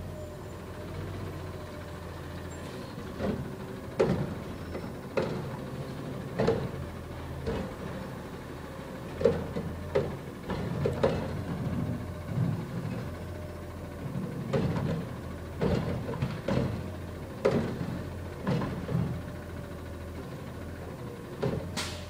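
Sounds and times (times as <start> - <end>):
garbage truck engine drone: 0.0 - 22.0.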